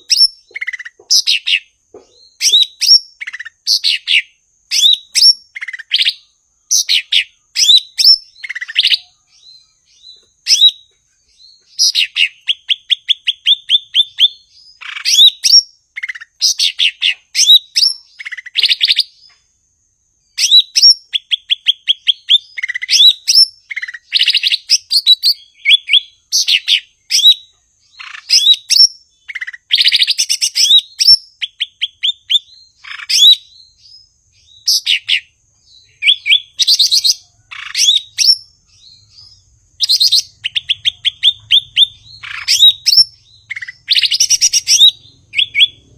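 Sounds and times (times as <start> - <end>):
bird singing chirps and whistles: 0.0 - 19.5, 20.2 - 45.9.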